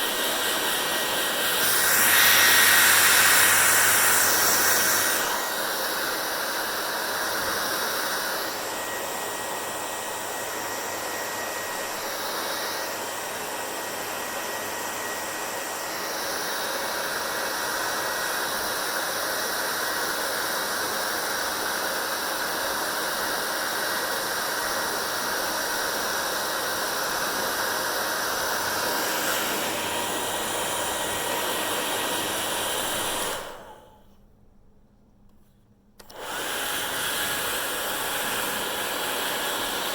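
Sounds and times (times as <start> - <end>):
hair dryer blowing: 0.0 - 34.0, 36.0 - 39.9.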